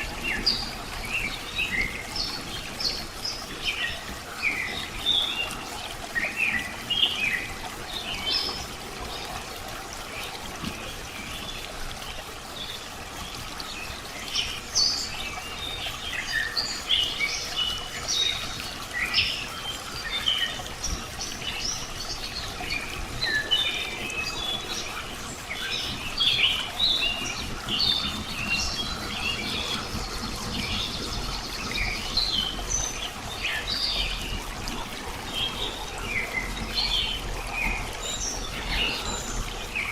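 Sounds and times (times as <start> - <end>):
small birds chirping: 0.0 - 39.9
water trickling: 0.0 - 39.9.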